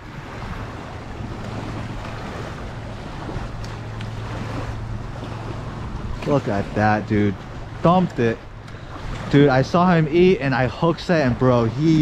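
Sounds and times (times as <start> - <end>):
low steady hum: 0.0 - 12.0
wind across microphone: 0.0 - 12.0.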